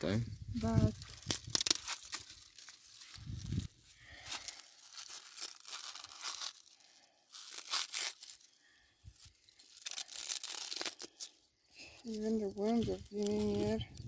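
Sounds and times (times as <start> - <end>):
corn husks tearing and rustling: 0.6 - 14.0.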